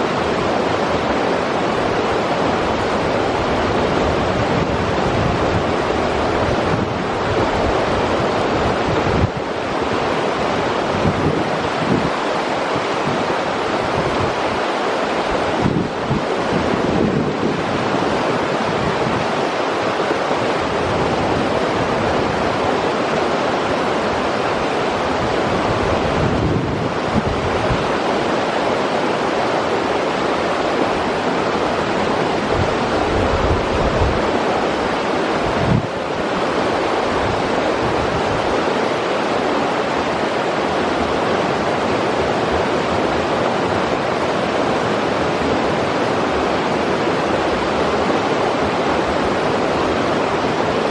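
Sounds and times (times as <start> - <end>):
river water rushing: 0.0 - 50.9
wind buffeting microphone: 0.0 - 50.9.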